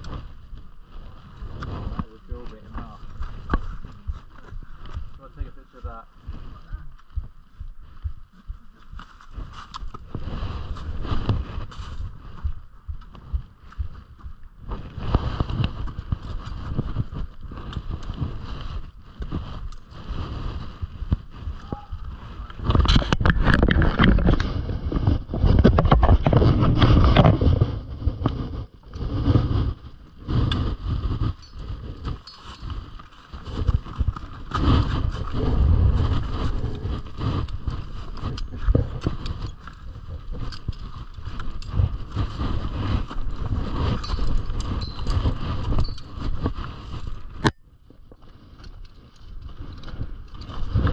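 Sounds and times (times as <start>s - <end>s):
wind buffeting microphone: 0.0s - 47.6s, 48.7s - 50.9s.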